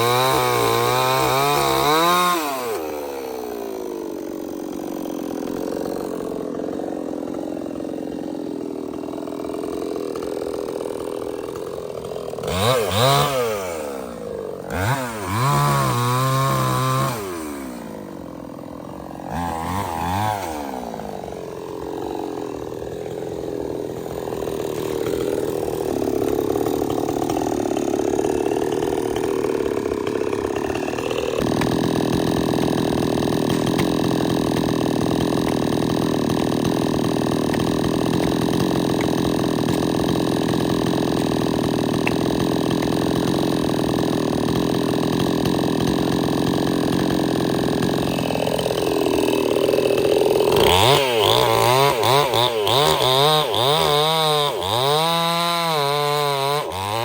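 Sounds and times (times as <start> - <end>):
chainsaw running and revving: 0.0 - 57.0.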